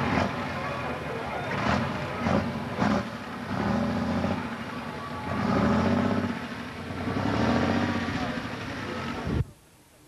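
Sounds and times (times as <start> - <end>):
tractor diesel engine under load: 0.0 - 9.4.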